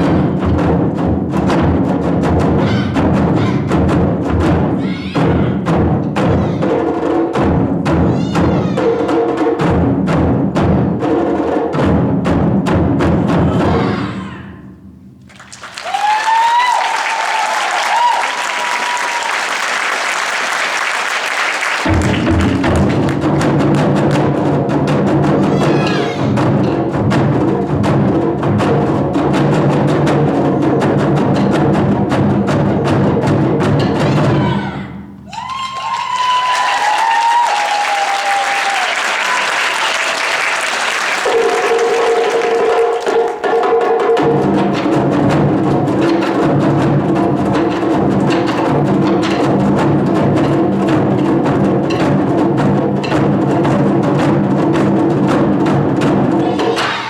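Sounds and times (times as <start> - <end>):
taiko drums playing fast: 0.0 - 57.0.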